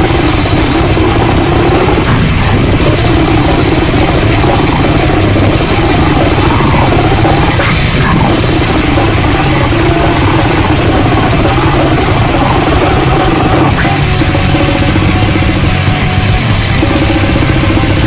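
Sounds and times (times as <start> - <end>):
driving drum kit: 0.0 - 18.0
heavy rock music: 0.0 - 18.0.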